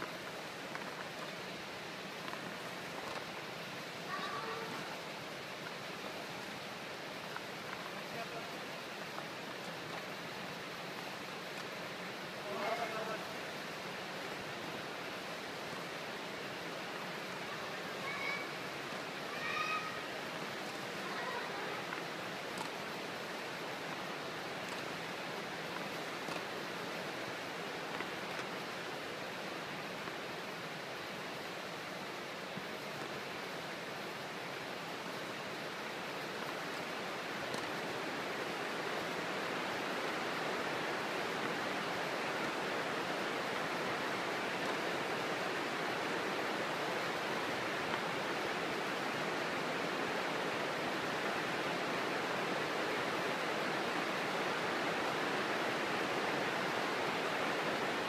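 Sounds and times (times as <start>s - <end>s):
steady rushing noise: 0.0s - 58.0s.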